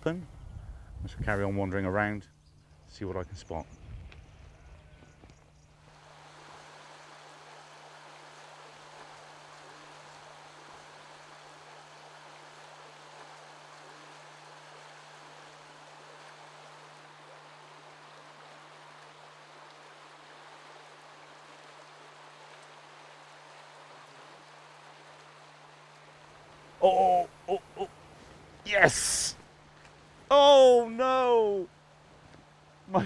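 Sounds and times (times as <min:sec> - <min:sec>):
flowing river water: 0:04.5 - 0:33.0.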